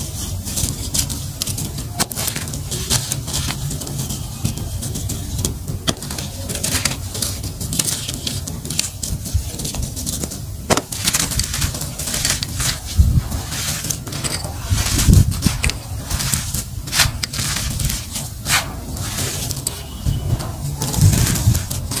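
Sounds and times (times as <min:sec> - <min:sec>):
gritty clumps crumbling in hands: 0:00.0 - 0:22.0
dull thumps: 0:00.7 - 0:22.0.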